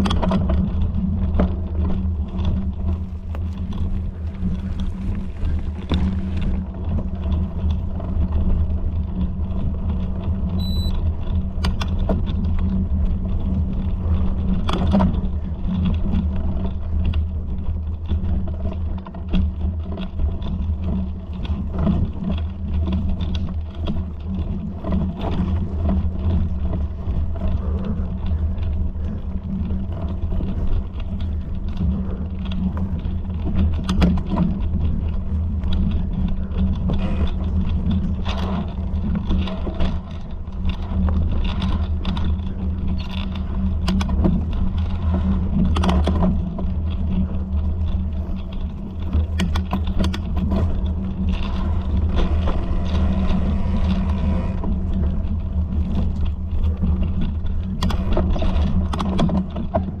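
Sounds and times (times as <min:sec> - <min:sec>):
vehicle low rumble: 0:00.0 - 1:00.0.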